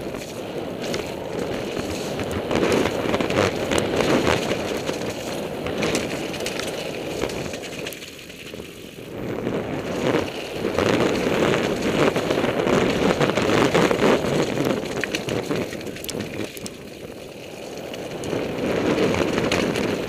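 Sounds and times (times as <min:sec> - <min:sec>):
bike rattling clicks: 0:00.0 - 0:20.0
bike tyres rumbling over dirt: 0:00.0 - 0:20.0.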